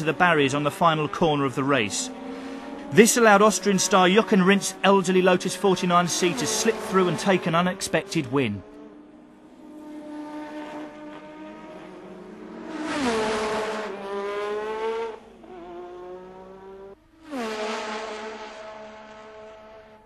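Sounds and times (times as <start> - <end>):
racing car engine at high revs: 0.0 - 20.0.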